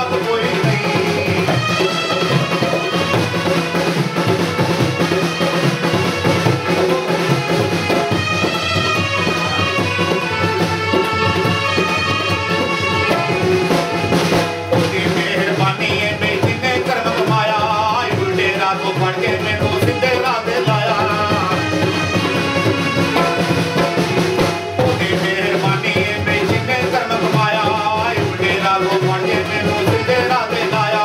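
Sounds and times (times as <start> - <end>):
tabla drumming: 0.0 - 31.0.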